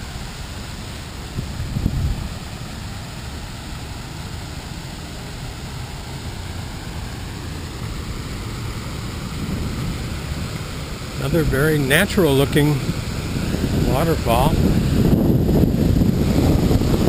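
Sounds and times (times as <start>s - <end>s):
waterfall rushing into a pool: 0.0s - 17.0s
wind rumble on microphone: 1.0s - 4.4s, 5.3s - 17.0s.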